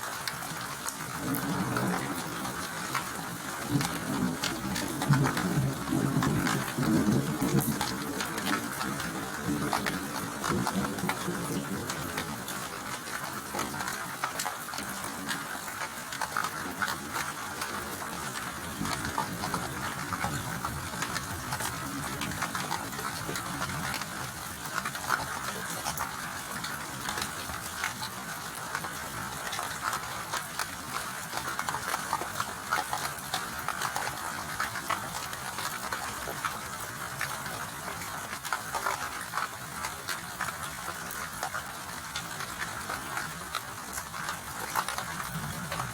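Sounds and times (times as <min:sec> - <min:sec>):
steady rainfall: 0:00.0 - 0:45.9.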